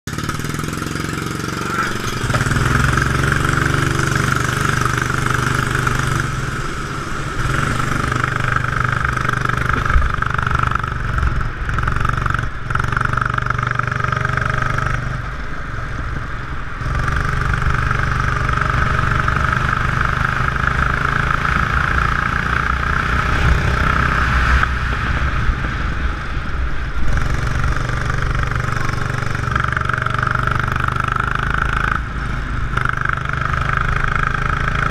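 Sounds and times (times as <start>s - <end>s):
go-kart engine running hard: 0.1s - 34.9s.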